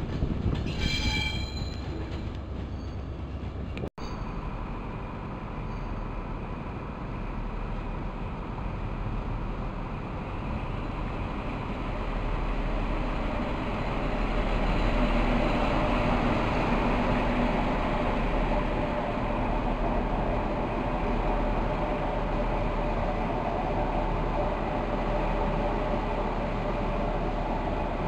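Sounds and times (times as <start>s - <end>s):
diesel train engine: 0.0s - 28.0s
train wheels on rails: 0.0s - 28.0s.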